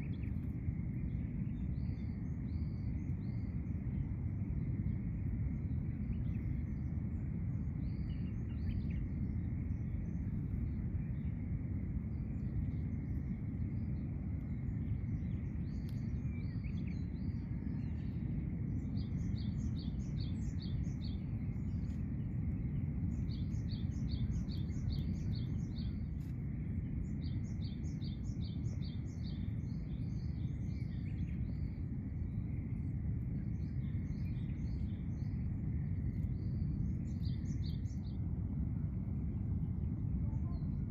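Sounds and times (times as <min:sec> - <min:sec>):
faint high hum: 0:00.0 - 0:40.9
low outdoor rumble: 0:00.0 - 0:40.9.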